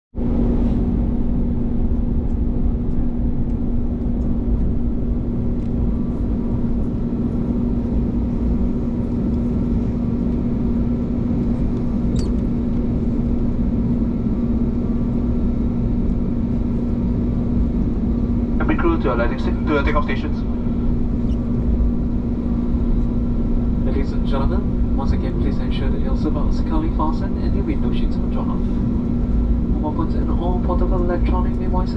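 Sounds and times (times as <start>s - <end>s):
airliner cabin drone: 0.2s - 31.9s.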